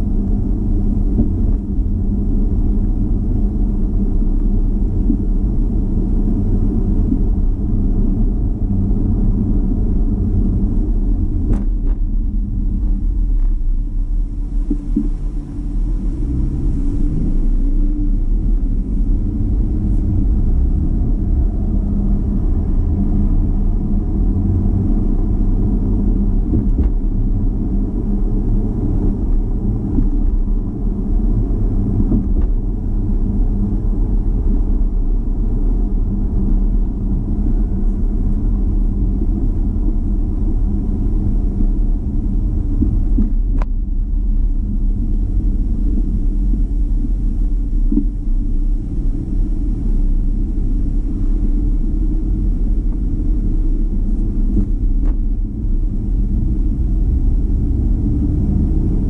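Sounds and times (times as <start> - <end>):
car interior driving rumble: 0.0 - 59.0.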